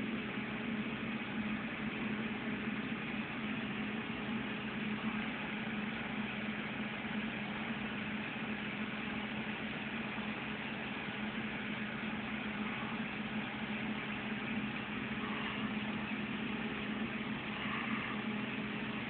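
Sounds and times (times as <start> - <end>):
air pump humming: 0.0 - 19.0.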